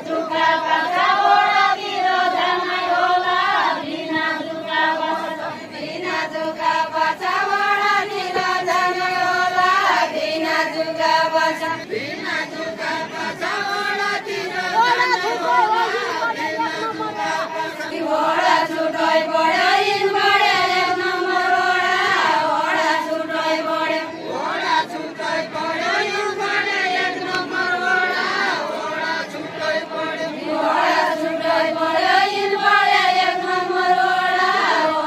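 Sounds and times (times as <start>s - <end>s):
women singing together: 0.0s - 35.0s.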